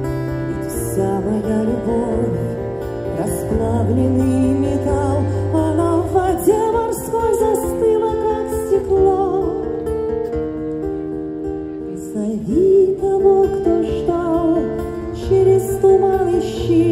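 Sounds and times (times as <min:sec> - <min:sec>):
woman singing into microphone: 0:00.0 - 0:10.0, 0:11.8 - 0:16.9
plucked acoustic guitar: 0:00.0 - 0:16.9.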